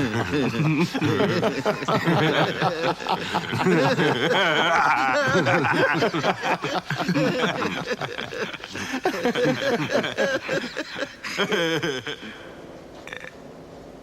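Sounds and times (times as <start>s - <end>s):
men laughing: 0.0s - 12.4s.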